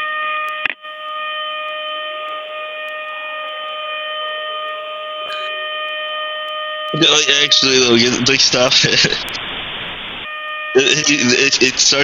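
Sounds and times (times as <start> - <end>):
alarm siren over a phone line: 0.0 - 12.0.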